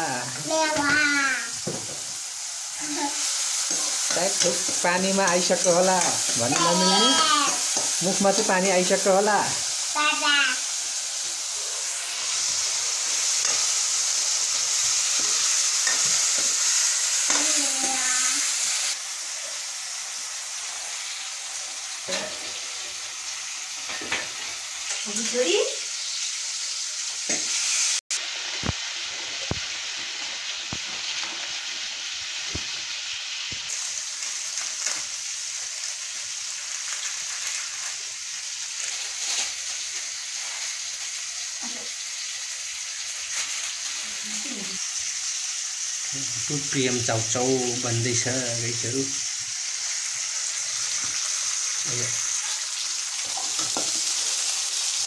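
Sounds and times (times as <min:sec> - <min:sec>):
oil and spices sizzling: 0:00.0 - 0:55.0.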